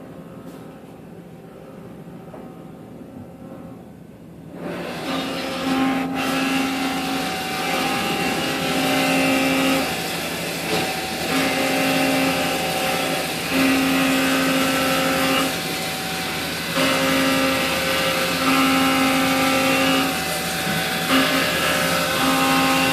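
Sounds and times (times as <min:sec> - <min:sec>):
machine hum: 0:00.0 - 0:22.9
pitched machine whine: 0:04.5 - 0:22.9.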